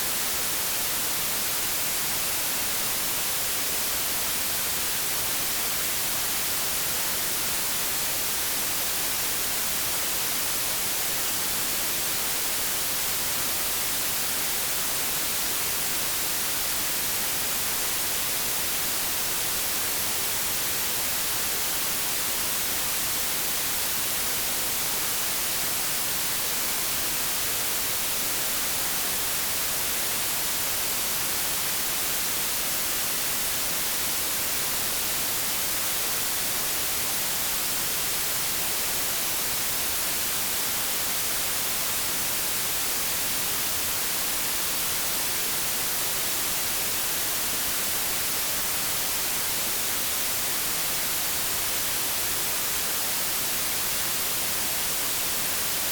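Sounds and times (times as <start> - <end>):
white noise static hiss: 0.0 - 55.9.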